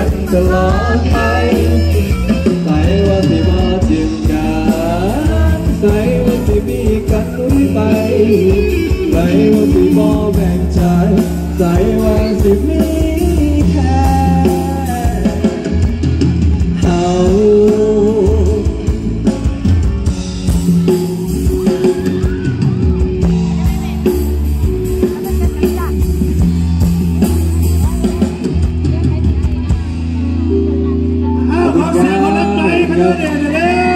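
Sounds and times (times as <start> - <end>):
live band with singing: 0.0 - 33.9.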